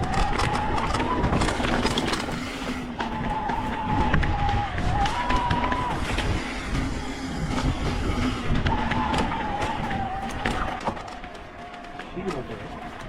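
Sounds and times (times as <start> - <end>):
bike rattling clicks: 0.0 - 13.0
tyres and wind rumbling: 0.0 - 13.0
wavering whine: 0.0 - 13.0.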